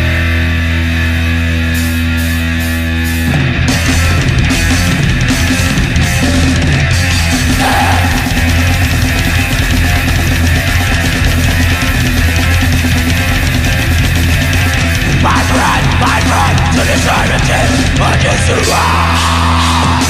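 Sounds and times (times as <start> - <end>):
black metal band playing: 0.0 - 20.0.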